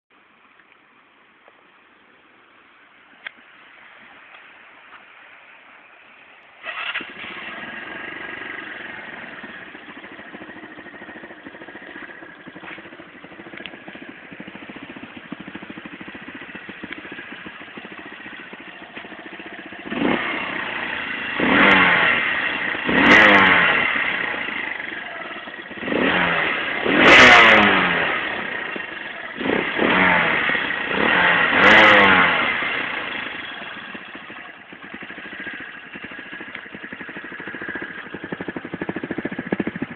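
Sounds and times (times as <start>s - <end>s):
motorcycle engine idling and revving: 6.6s - 39.9s.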